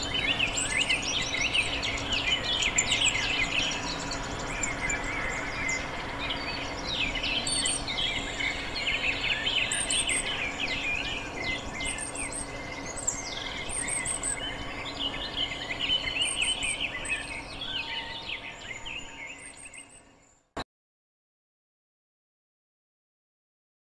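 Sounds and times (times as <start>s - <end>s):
small birds chirping: 0.0s - 20.6s.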